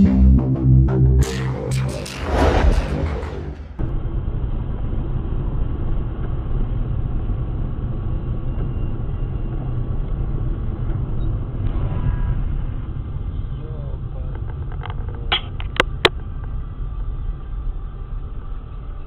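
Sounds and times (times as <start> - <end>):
car engine and road noise: 0.6 - 19.0.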